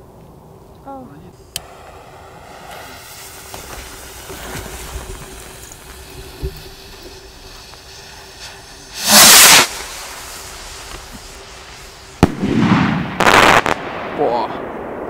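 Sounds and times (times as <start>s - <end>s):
firework rocket launch hiss: 1.4s - 15.0s.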